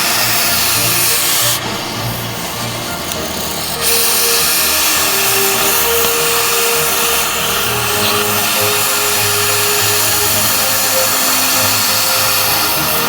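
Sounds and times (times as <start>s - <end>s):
background music: 0.0s - 13.0s
cutting torch hissing: 0.0s - 13.0s.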